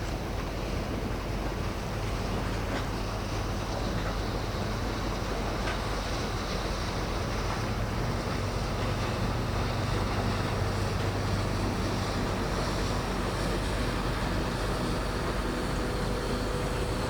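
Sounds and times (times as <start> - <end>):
waves: 0.0 - 17.0
wind: 0.0 - 17.0.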